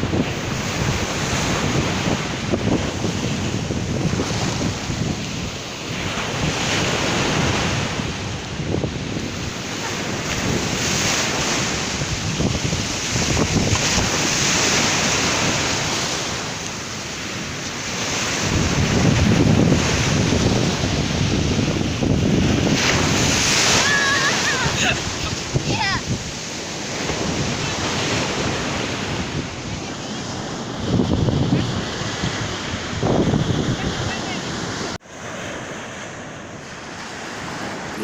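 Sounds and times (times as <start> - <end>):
wind buffeting microphone: 0.0 - 35.0
sea waves crashing on shore: 0.0 - 38.0.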